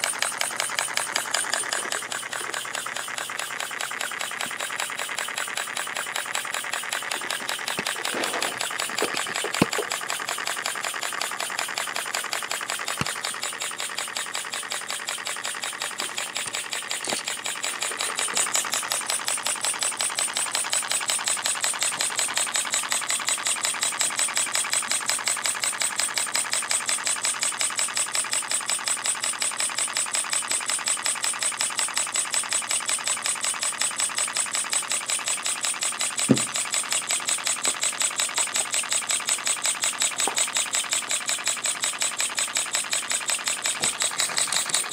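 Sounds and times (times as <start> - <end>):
model steam engine exhausting: 0.0 - 44.9.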